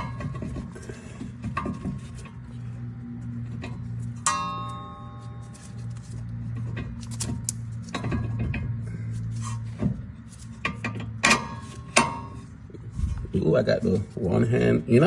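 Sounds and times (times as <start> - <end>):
background music hum: 0.0 - 15.0.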